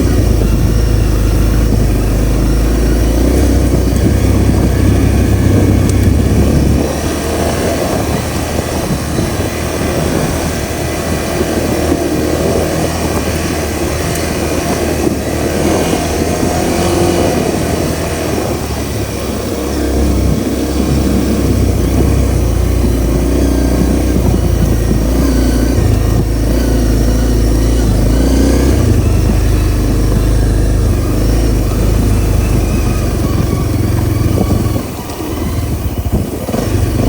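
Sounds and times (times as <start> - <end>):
deep low rumble: 0.0 - 37.0
motorcycle engine running: 0.0 - 37.0.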